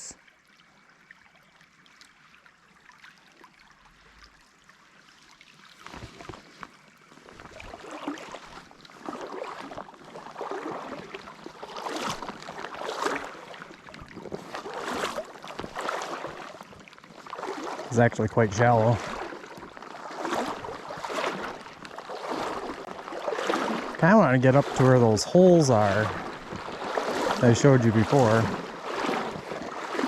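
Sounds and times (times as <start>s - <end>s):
legs sloshing through water: 2.0s - 30.0s.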